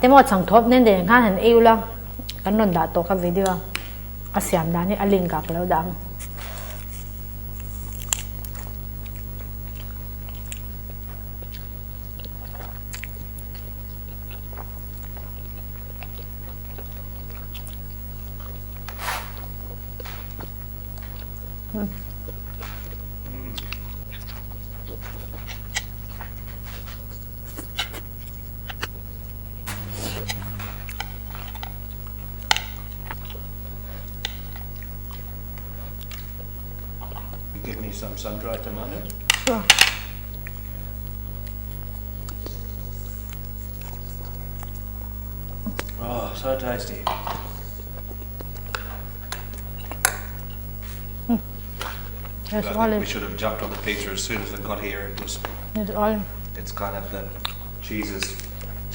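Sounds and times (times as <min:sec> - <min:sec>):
people chewing food: 0:00.0 - 0:58.9
steady low hum: 0:00.0 - 0:58.9.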